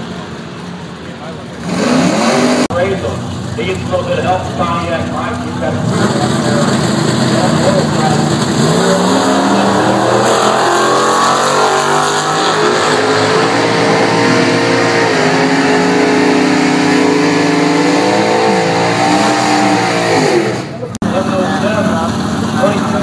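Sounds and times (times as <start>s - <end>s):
drag racing cars accelerating: 0.0s - 23.0s.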